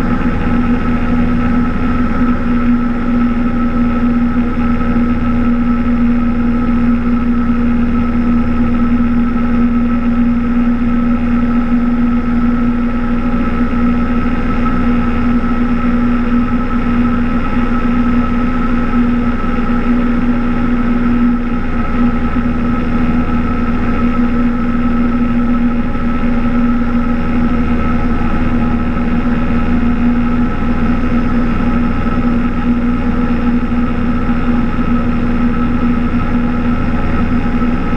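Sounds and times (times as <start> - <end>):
propeller plane engine droning: 0.0 - 37.9.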